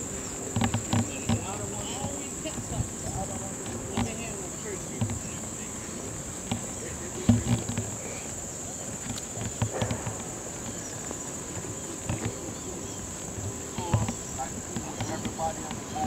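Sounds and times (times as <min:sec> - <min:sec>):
insects droning: 0:00.0 - 0:16.0
low thumps: 0:00.0 - 0:16.0.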